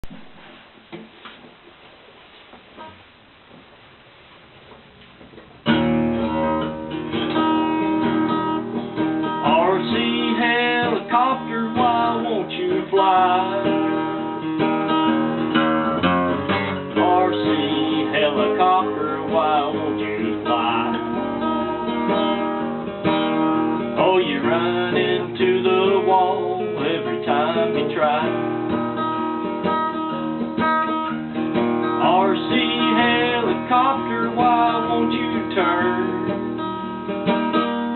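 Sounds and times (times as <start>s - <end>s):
acoustic guitar strummed blues: 4.8s - 37.9s
bending guitar melody line: 5.2s - 37.9s.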